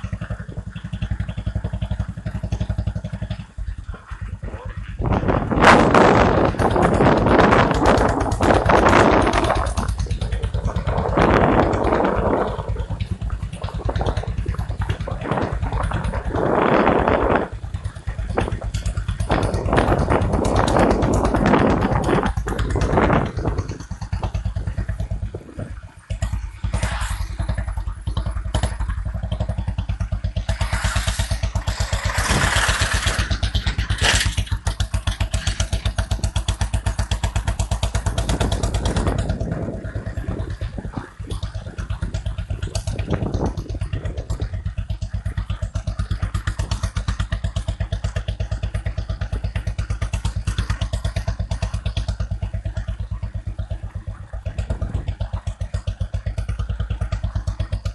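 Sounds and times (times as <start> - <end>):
motorcycle engine idling: 0.0 - 57.9
motorcycle engine revving: 0.0 - 57.9.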